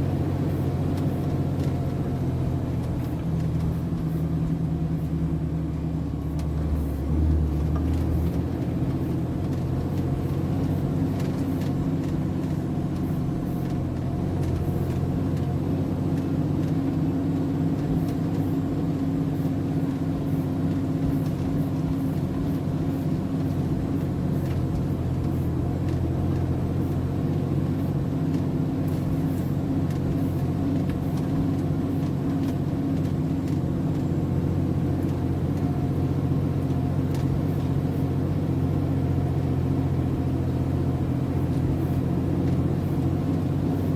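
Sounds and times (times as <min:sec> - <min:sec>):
truck diesel engine rumbling: 0:00.0 - 0:43.9.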